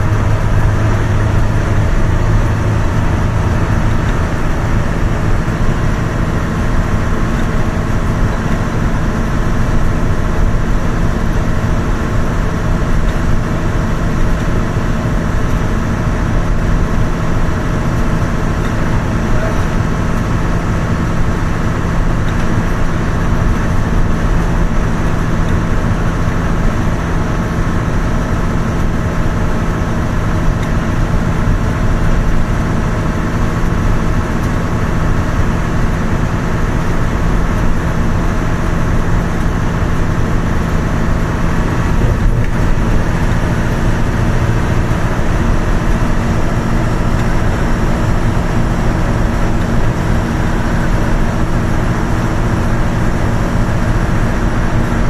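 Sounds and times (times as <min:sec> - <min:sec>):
tyre road rumble: 0:00.0 - 0:55.0
vehicle engine hum: 0:00.0 - 0:55.0.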